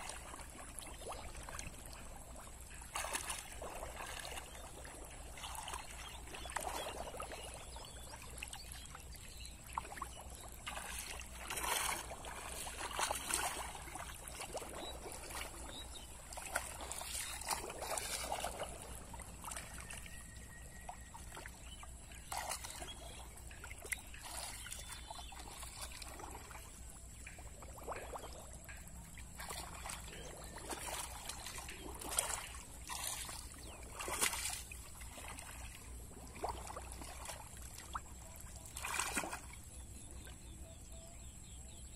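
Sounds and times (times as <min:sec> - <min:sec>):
shallow water splashing: 0:00.0 - 0:40.4.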